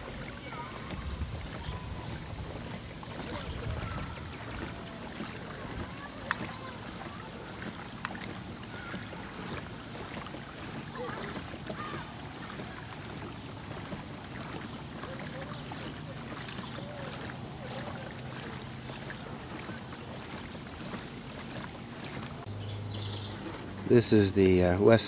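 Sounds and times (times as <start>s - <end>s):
boat engine low rumble: 0.0s - 25.0s
water and wind noise: 0.0s - 25.0s.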